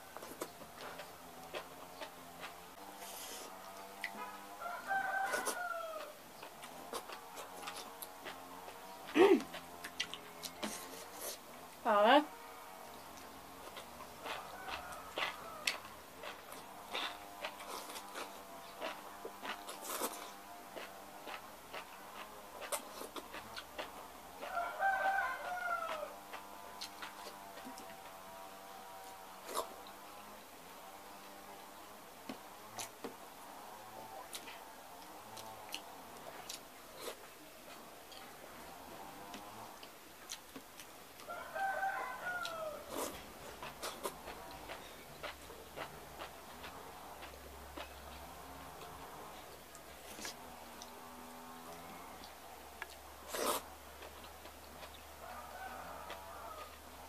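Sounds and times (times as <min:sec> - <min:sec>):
chewing: 0:00.0 - 0:57.0.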